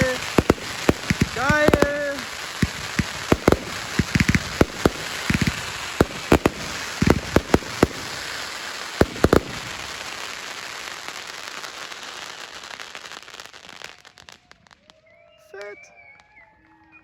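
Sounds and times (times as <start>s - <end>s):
firework bangs: 0.0s - 14.9s
firework crackling hiss: 0.0s - 14.9s.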